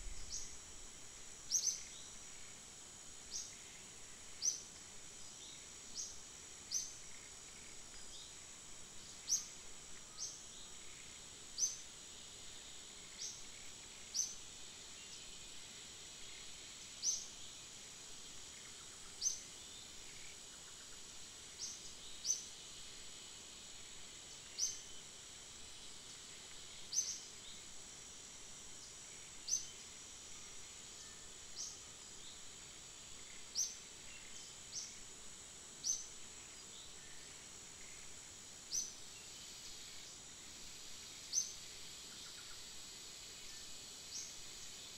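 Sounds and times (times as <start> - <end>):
high insect drone: 0.0 - 44.9.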